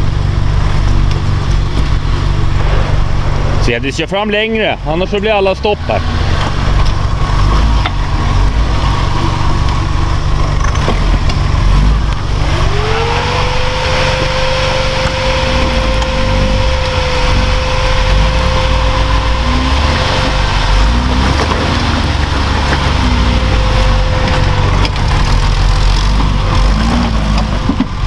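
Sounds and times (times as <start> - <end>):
rising whine: 0.0 - 28.0
vehicle engine rumbling: 0.0 - 28.0.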